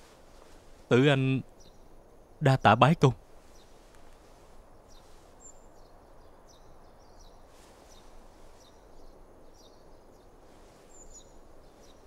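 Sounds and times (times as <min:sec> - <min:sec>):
low background hiss: 0:00.0 - 0:12.0
small birds chirping: 0:00.0 - 0:12.0.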